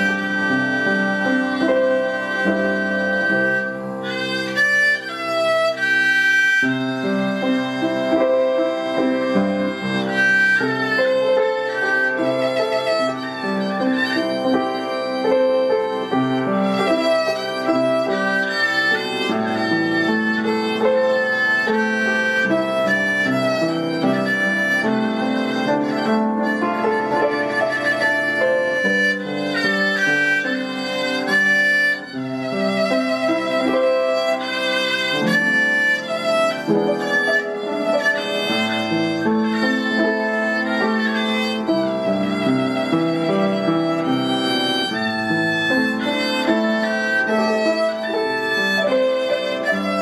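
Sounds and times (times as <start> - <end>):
violin melody with accompaniment: 0.0 - 50.0.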